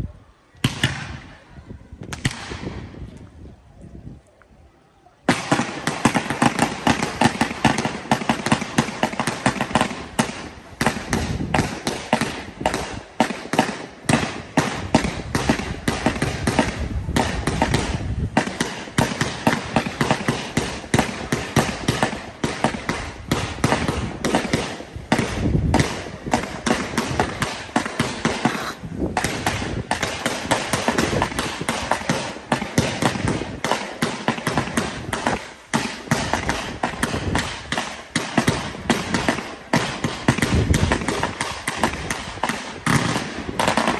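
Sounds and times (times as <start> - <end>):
fireworks bangs and crackles: 0.6 - 3.4, 5.2 - 43.9.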